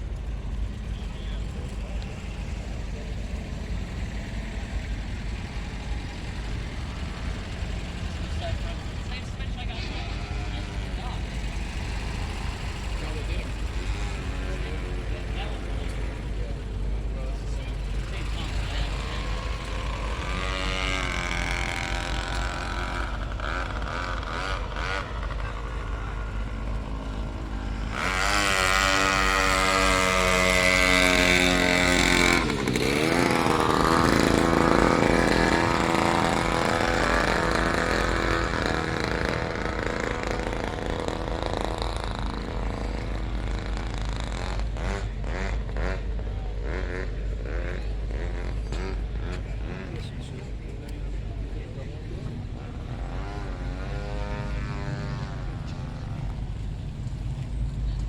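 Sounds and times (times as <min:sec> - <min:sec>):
low engine rumble: 0:00.0 - 0:58.0
vehicle engine accelerating: 0:00.0 - 0:58.0.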